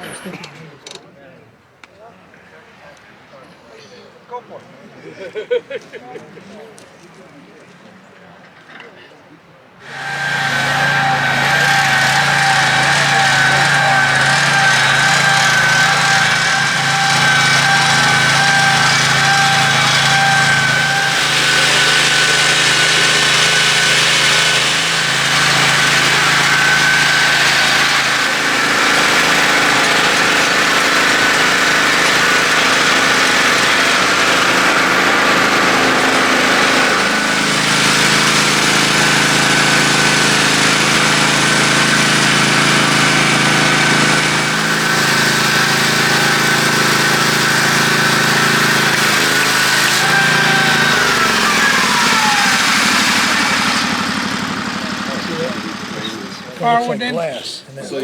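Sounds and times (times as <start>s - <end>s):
high saw whine: 9.8s - 56.5s
sawmill engine noise: 9.8s - 57.4s.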